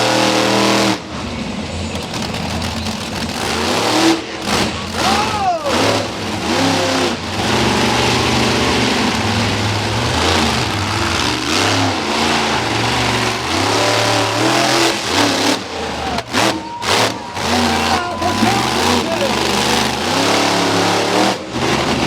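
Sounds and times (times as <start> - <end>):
monster truck engine revving: 0.0 - 22.0.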